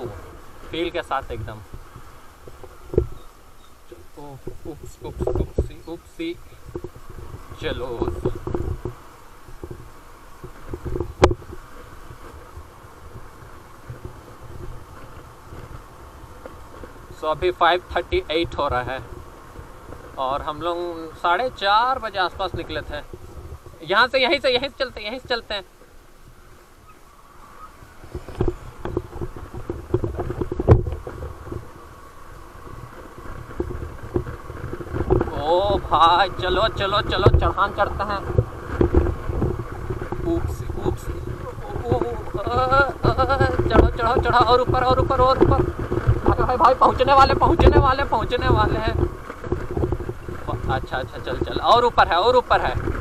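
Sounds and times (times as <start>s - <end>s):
wind rumble on microphone: 0.0s - 53.0s.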